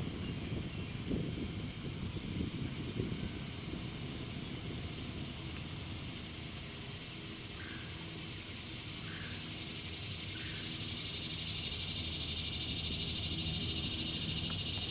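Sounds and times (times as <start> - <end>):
insects buzzing: 0.0 - 14.9.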